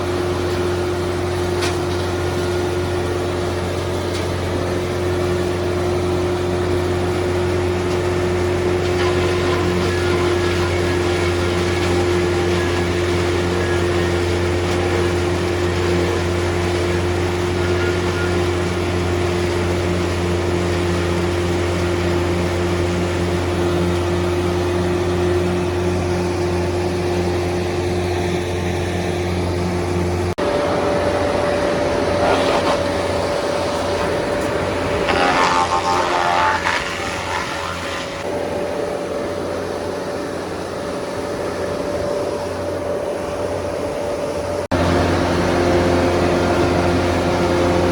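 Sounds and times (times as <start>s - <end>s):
harsh machine noise: 0.0s - 47.9s
wood crusher engine humming: 0.0s - 47.9s.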